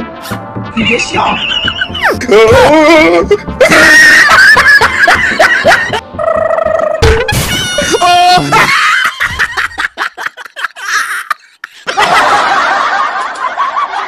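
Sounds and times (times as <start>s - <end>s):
person laughing: 1.2s - 12.8s.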